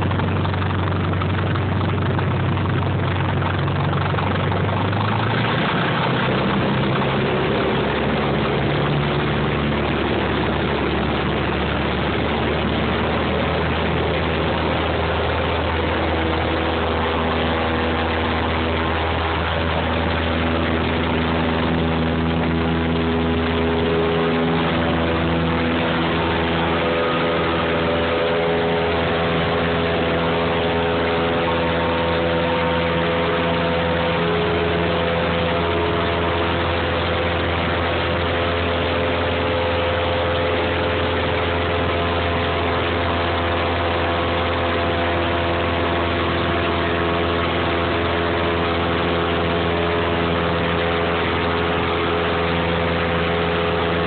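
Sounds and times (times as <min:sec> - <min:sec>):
aircraft engine drone in cabin: 0:00.0 - 0:54.0.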